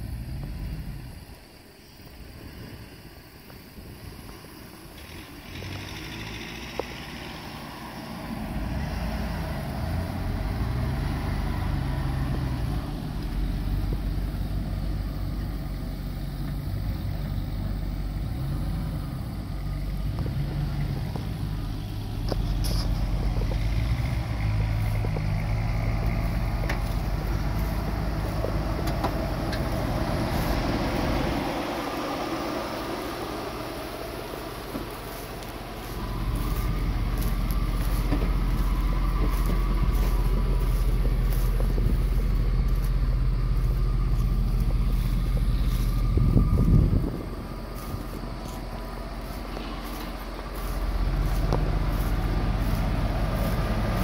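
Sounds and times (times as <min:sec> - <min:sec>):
pickup truck engine running: 0:02.2 - 0:54.0.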